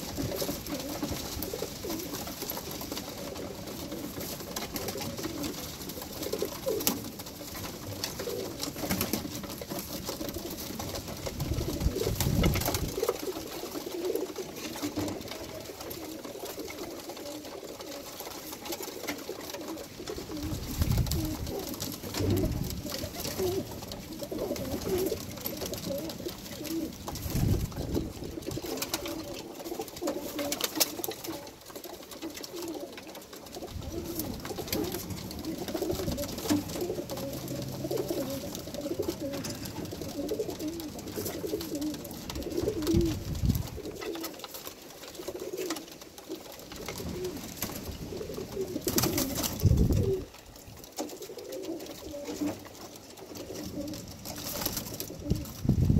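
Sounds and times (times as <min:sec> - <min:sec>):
birds flapping and thumping: 0:00.0 - 0:55.9
pigeons cooing: 0:00.0 - 0:55.9.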